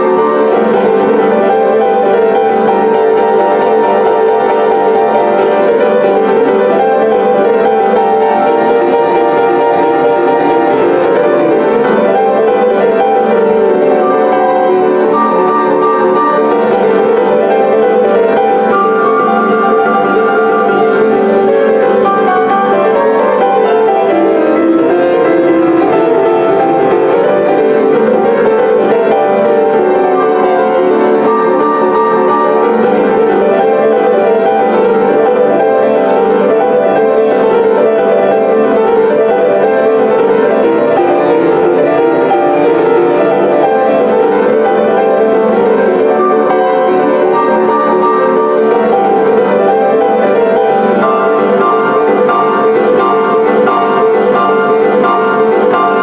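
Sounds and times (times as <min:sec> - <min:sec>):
boogie-woogie piano: 0:00.0 - 0:56.0.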